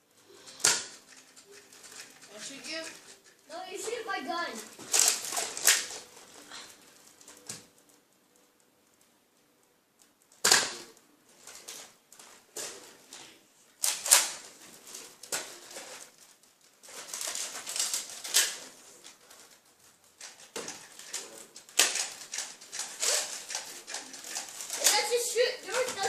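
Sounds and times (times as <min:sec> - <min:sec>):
rustling: 0:00.0 - 0:26.0.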